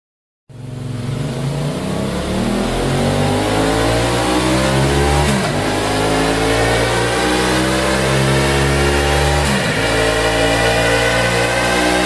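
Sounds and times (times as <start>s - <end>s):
motorcycle engine revving: 0.5s - 12.0s.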